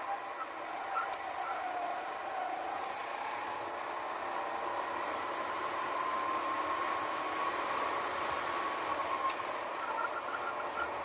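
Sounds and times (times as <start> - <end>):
wind and track noise hiss: 0.0 - 11.0
go-kart engine accelerating: 0.6 - 11.0.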